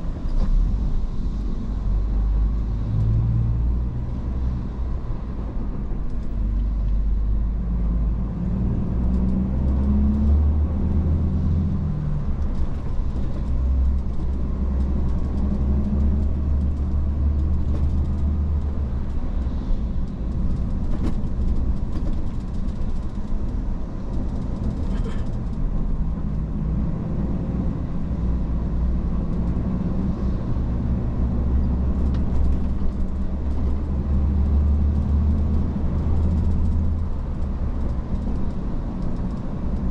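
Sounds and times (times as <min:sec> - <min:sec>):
truck engine and road noise drone: 0:00.0 - 0:39.9.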